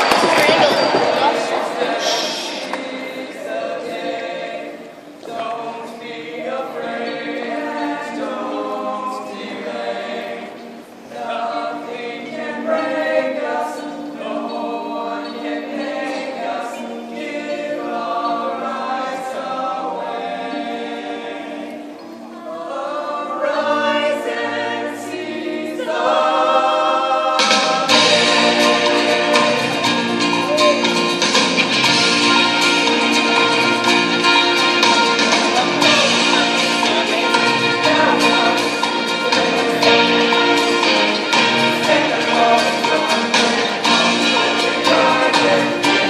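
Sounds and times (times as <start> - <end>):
mixed choir singing in harmony: 0.0 - 46.0.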